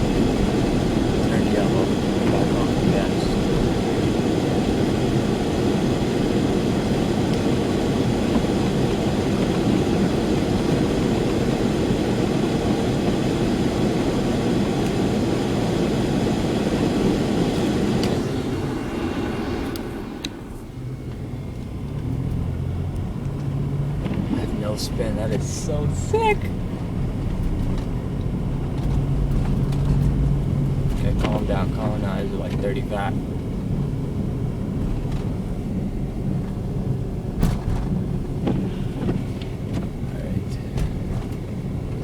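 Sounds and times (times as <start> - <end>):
car engine and tyre road noise: 0.0 - 42.0.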